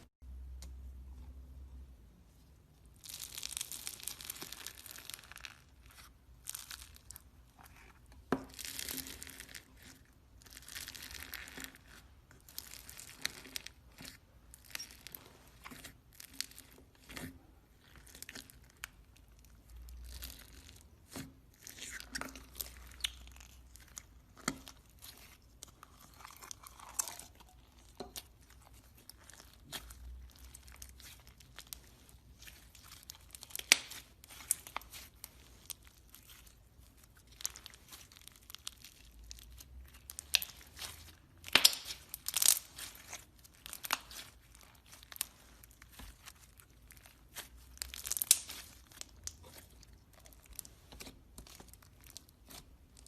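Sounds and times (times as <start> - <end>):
brittle material crunching: 8.4 - 53.0.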